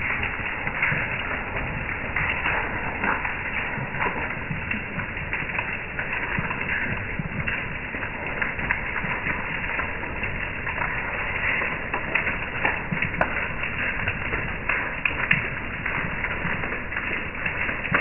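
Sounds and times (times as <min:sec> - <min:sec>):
hailstones ticking: 0:00.0 - 0:18.0
steady hiss of rain: 0:00.0 - 0:18.0.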